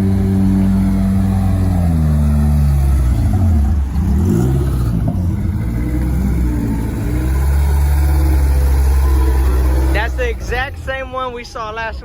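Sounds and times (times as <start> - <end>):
car engines revving: 0.0 - 11.4.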